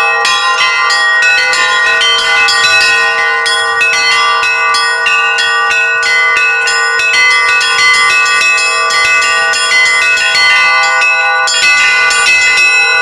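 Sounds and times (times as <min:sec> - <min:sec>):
large bell humming: 0:00.0 - 0:13.0
quick strikes on small bells: 0:00.0 - 0:13.0.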